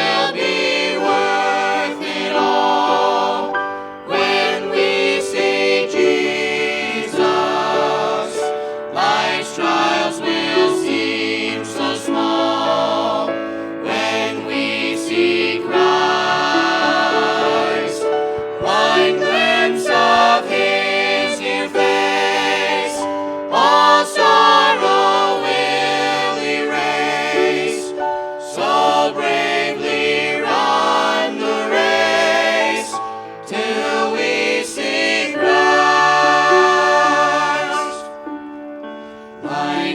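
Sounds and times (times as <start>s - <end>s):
vocal group singing in harmony: 0.0s - 39.9s.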